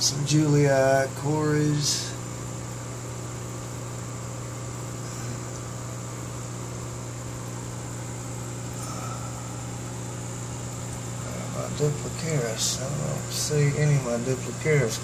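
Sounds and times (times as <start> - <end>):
low electric hum: 0.0 - 15.0.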